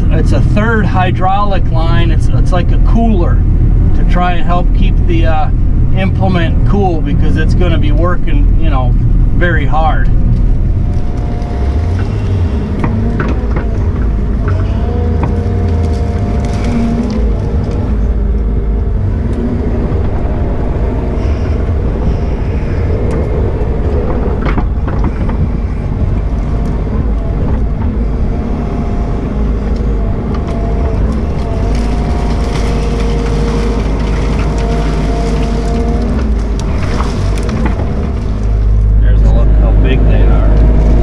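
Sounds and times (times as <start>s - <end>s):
diesel engine running under load: 0.0s - 41.0s
hydraulic whine: 0.0s - 41.0s
roots and branches cracking: 6.2s - 41.0s.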